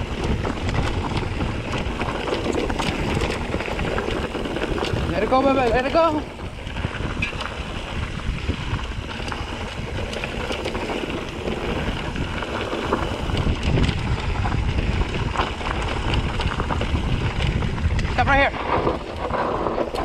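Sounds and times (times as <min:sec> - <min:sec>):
bike rattling over rocks: 0:00.0 - 0:20.0
wind on microphone: 0:00.0 - 0:20.0.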